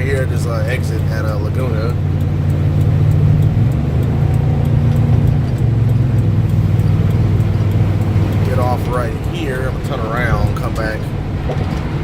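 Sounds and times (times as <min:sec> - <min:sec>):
low exhaust drone: 0:00.0 - 0:12.0.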